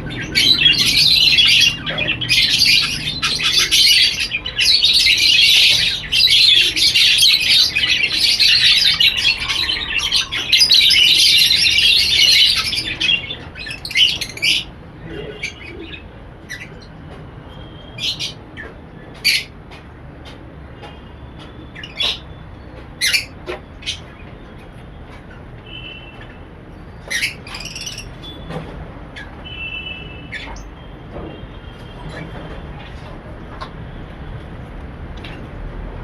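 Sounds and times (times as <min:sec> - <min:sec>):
birds chattering and squawking: 0:00.0 - 0:36.0.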